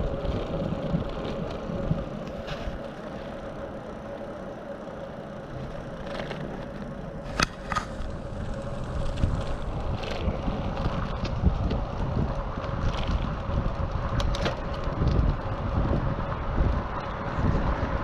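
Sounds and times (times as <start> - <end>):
bicycle tyre rumble on pavement: 0.0 - 18.0.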